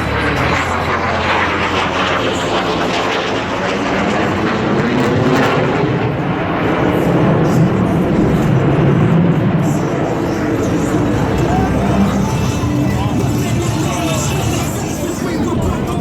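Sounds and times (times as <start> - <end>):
jet fighter flying past: 0.0 - 16.0.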